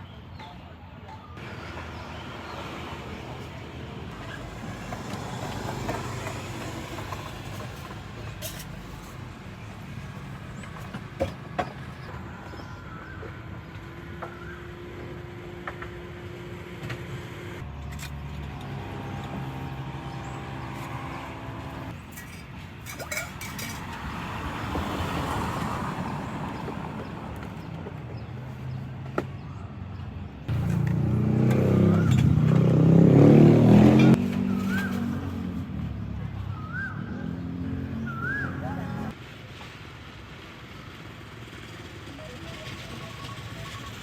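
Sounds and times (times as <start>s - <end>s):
road traffic passing: 0.0s - 44.0s
loud vehicle rumble: 1.3s - 44.0s.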